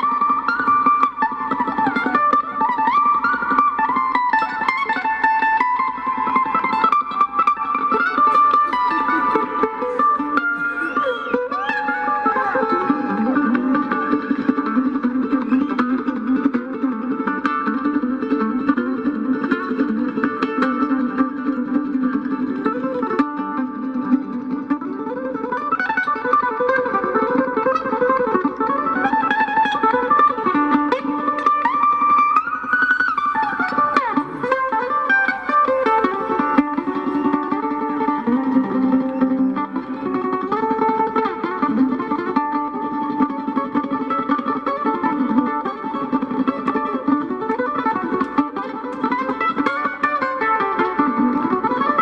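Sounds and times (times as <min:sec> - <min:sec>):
mandolin picking fast runs: 0:00.0 - 0:52.0.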